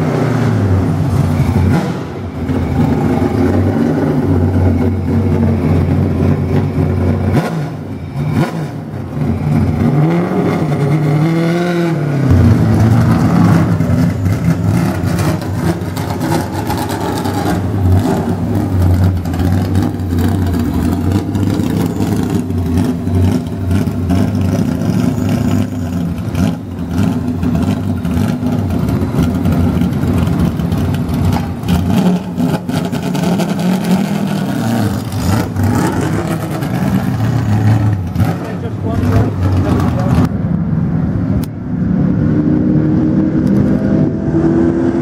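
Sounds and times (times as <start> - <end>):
race car engine idling and revving: 0.0 - 45.0.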